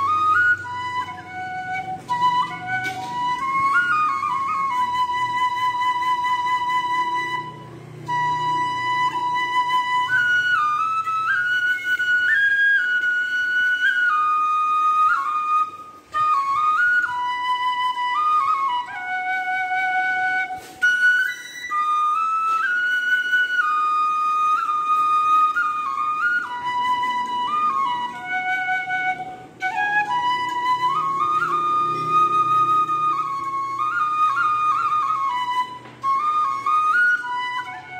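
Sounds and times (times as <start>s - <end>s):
solo flute melody: 0.0s - 37.9s.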